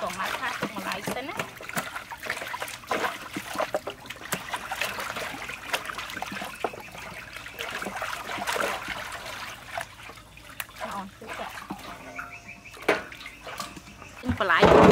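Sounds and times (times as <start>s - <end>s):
water splashing in metal basin: 0.0s - 14.9s.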